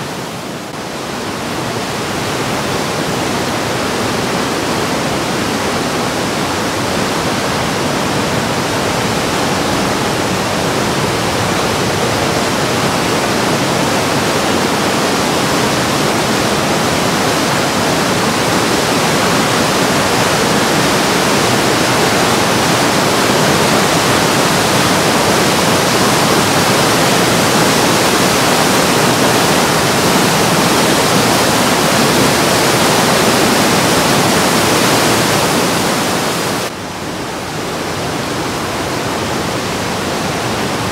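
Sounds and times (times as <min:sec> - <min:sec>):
whitewater rushing through gorge: 0:00.0 - 0:40.9.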